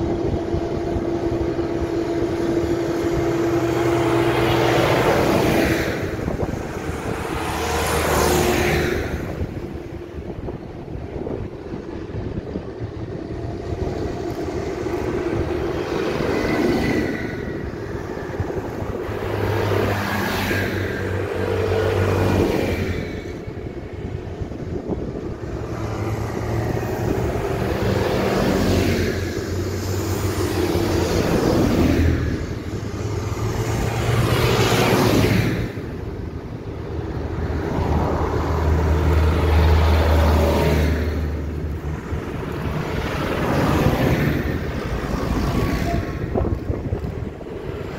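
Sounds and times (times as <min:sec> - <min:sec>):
tractors driving past: 0:00.0 - 0:47.9.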